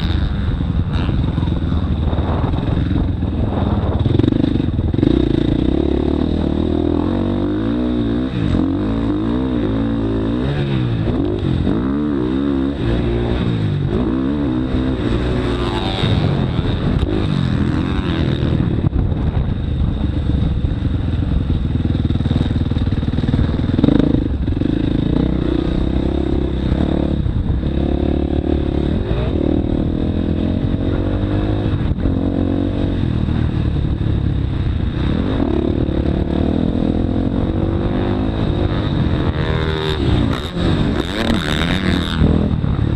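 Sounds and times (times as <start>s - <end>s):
dirt bike engine revving: 0.0s - 19.0s, 21.3s - 42.9s.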